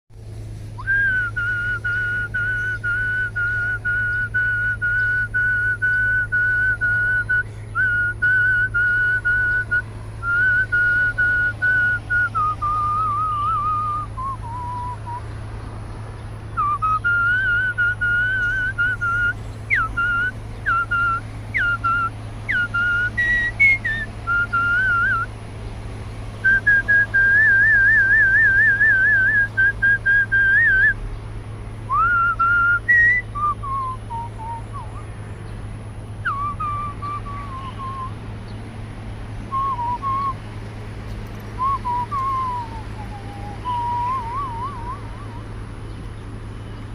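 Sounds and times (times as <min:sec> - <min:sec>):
steady low hum: 0:00.1 - 0:46.9
person whistling a melody: 0:00.8 - 0:15.2, 0:16.5 - 0:25.3, 0:26.4 - 0:31.0, 0:31.9 - 0:35.0, 0:36.2 - 0:38.2, 0:39.5 - 0:40.4, 0:41.6 - 0:45.5.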